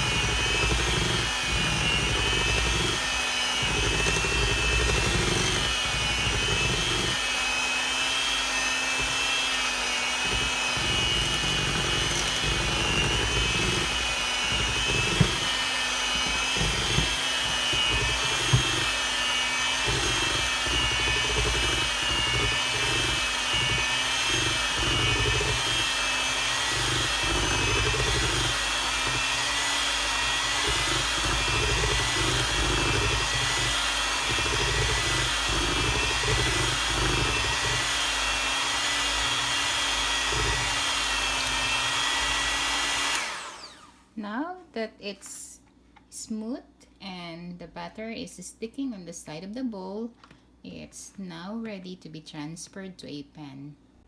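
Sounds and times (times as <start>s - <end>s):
electric hand mixer whining: 0.0s - 44.0s.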